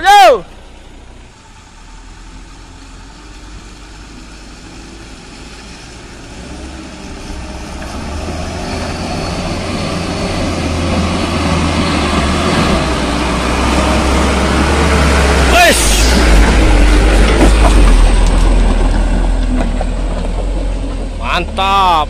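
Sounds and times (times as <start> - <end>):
truck diesel engine under load: 0.0 - 22.0.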